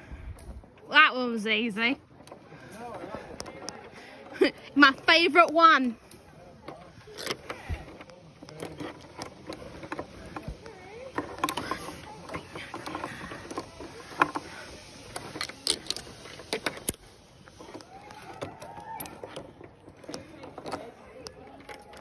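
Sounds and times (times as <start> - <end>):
climbing gear clicking and knocking: 0.2 - 22.0.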